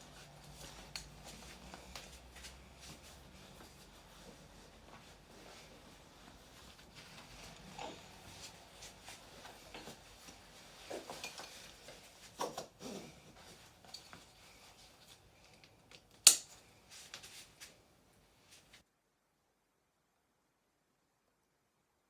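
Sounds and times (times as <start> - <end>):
straps and clothing rustling: 0.0 - 18.8.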